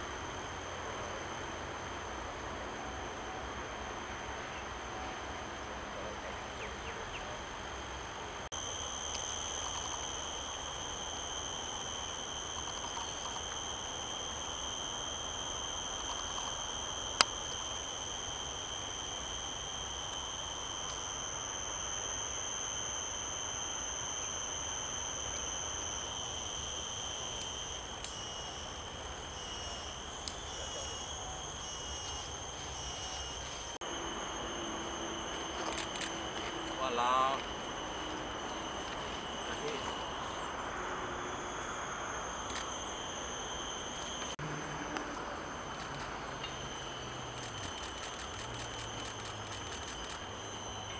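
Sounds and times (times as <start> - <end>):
high-pitched insect drone: 0.0 - 50.9.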